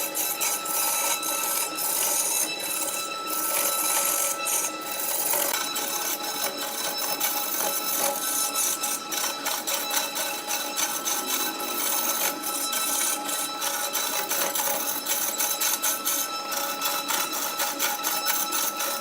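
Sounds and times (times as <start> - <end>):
high ringing tone: 0.0 - 19.0
steel tool scraping wood: 0.0 - 19.0
wood lathe turning: 0.0 - 19.0.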